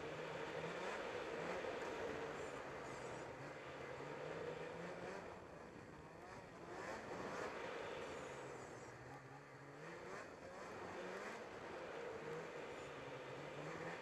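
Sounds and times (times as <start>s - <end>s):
track and snow noise: 0.0s - 14.0s.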